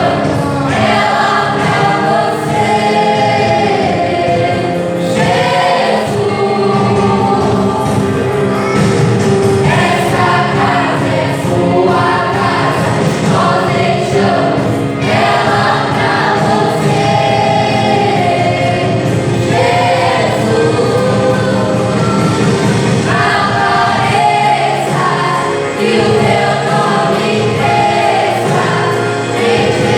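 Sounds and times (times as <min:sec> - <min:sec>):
choir singing gospel song: 0:00.0 - 0:29.9
musical accompaniment: 0:00.0 - 0:29.9.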